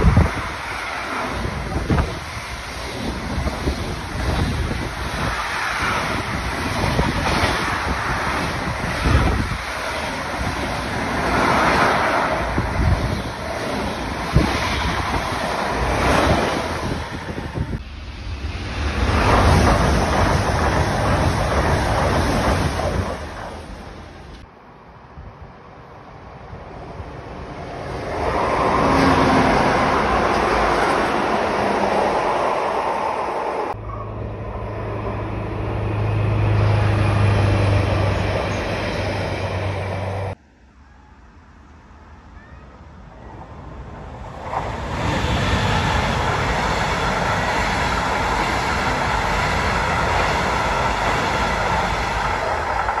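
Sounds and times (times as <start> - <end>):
train wheels rumbling on rails: 0.0 - 24.5, 26.9 - 40.4, 43.6 - 53.0
passing train rumble: 0.0 - 53.0.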